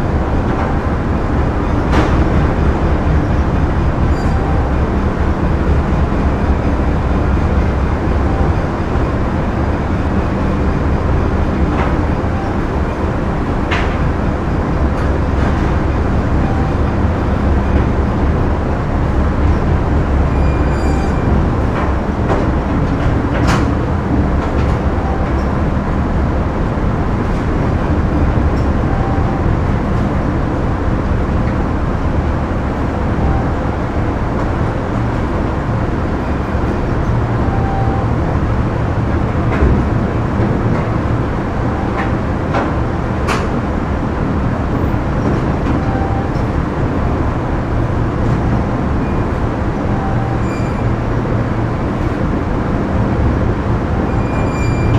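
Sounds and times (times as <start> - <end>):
factory machinery din: 0.0 - 54.9.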